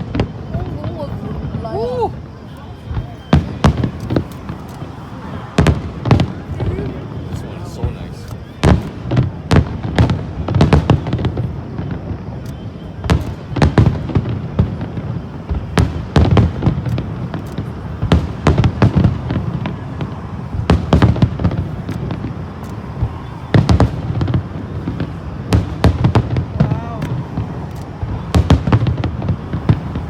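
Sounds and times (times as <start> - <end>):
firework bangs and cracks: 0.0 - 30.0.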